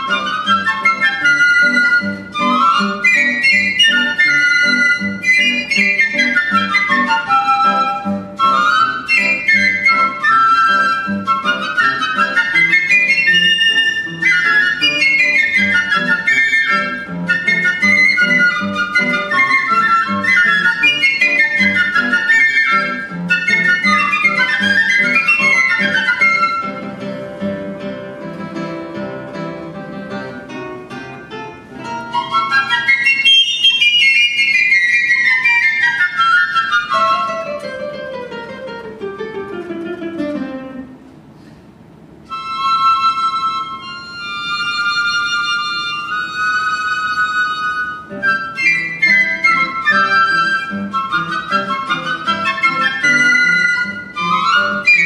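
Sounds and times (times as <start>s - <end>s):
classical guitar accompaniment: 0.0s - 55.0s.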